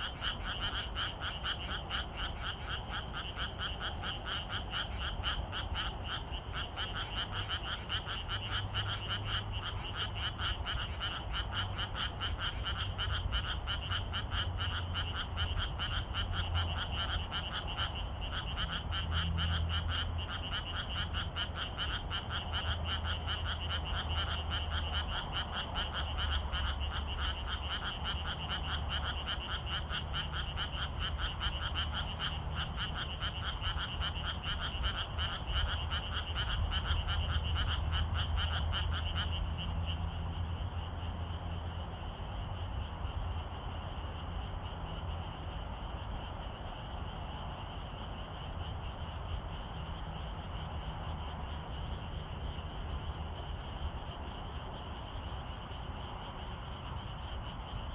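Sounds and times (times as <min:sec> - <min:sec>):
chorus of frogs croaking: 0:00.0 - 0:57.9.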